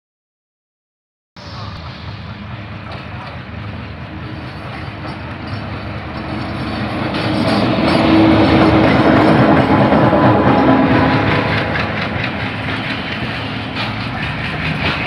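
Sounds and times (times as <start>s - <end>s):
passenger train passing: 1.4s - 15.0s.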